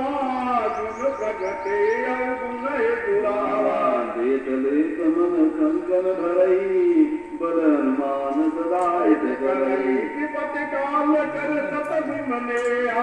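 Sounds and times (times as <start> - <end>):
man singing devotional chant: 0.0 - 13.0.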